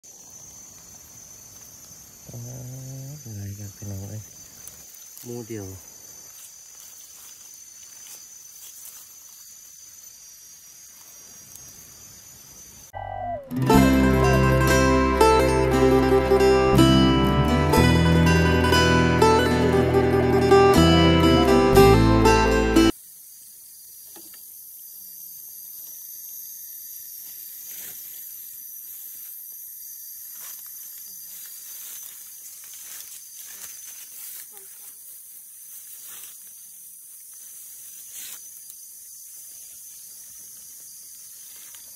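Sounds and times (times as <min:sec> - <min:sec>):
insect chorus: 0:00.0 - 0:41.9
woodland ambience hiss: 0:00.0 - 0:41.9.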